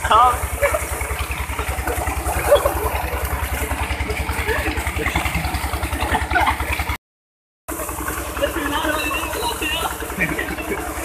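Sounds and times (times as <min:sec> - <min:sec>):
pump engine running: 0:00.0 - 0:07.0, 0:07.7 - 0:11.0
water gushing and splashing: 0:00.0 - 0:07.0, 0:07.7 - 0:11.0.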